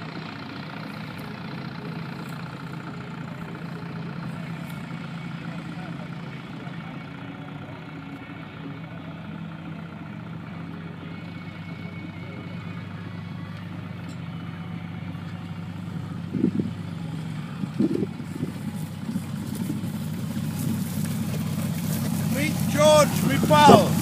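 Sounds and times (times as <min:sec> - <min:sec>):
motor trike engine running: 0:00.0 - 0:24.0.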